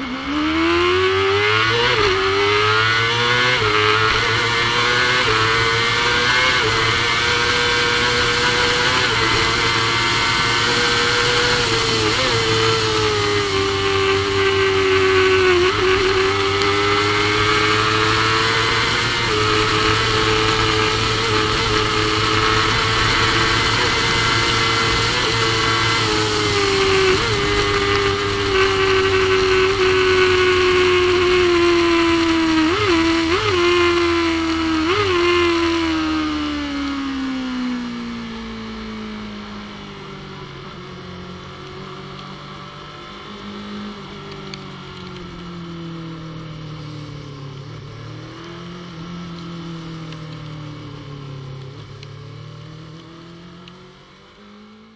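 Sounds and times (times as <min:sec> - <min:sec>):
motorcycle engine at high revs: 0:00.0 - 0:54.9.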